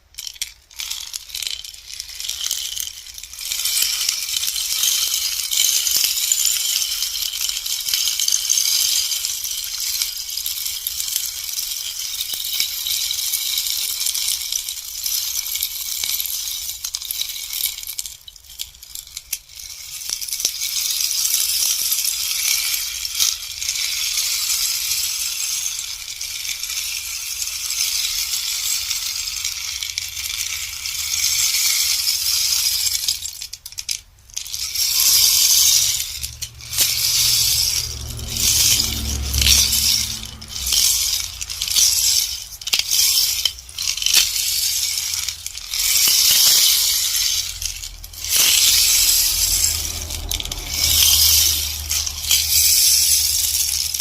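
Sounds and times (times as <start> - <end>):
rainstick pattering cascade: 0.0 - 54.0.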